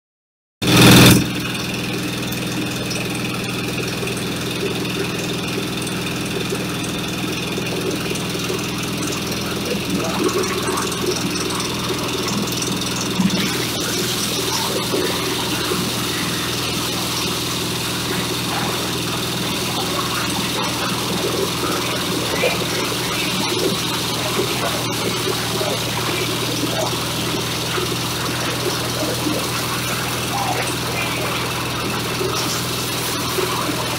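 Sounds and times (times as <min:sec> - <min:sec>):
diesel engine running: 0:00.6 - 0:33.9.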